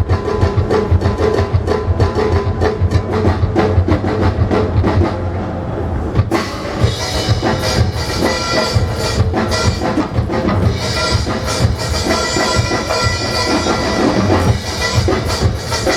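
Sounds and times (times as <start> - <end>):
drum kit playing: 0.0 - 5.4, 6.2 - 15.9.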